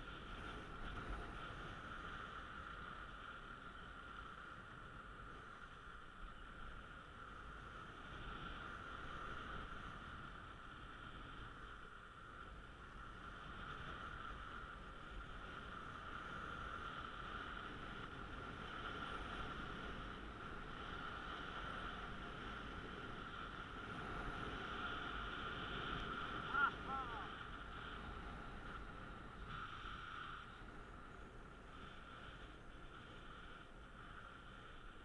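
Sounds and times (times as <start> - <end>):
skis sliding over snow: 0.0 - 35.0
wind on microphone: 0.0 - 35.0.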